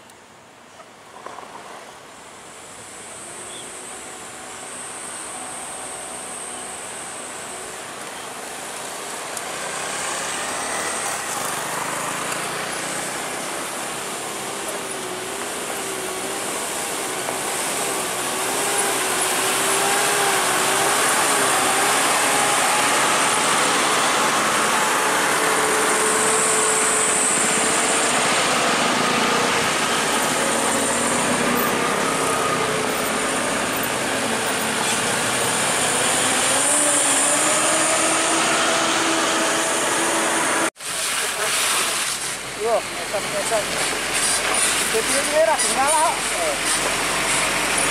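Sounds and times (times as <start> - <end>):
truck engines labouring uphill: 0.0 - 47.9.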